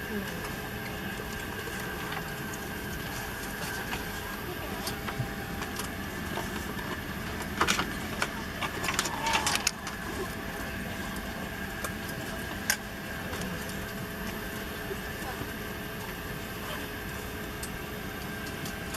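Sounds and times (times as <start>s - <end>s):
airplane cabin drone: 0.0s - 18.9s.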